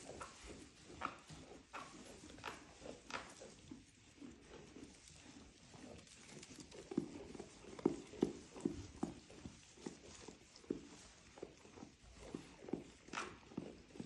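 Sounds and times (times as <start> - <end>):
sheep hooves on hard ground: 0.0 - 14.0.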